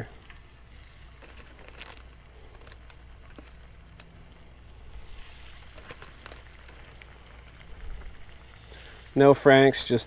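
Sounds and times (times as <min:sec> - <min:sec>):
crackling pops: 0:00.0 - 0:09.7
fish frying in grease: 0:00.0 - 0:10.0.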